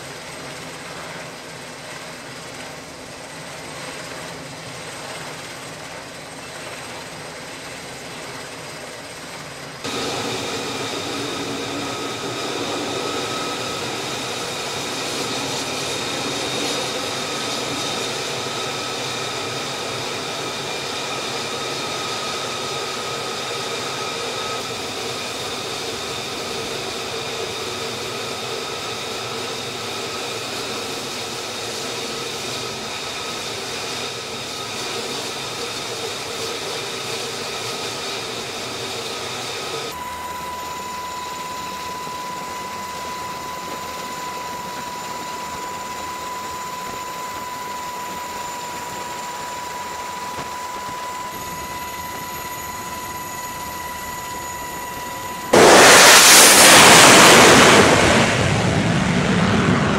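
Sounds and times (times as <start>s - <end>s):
jet engine rush and whine: 0.0s - 59.9s.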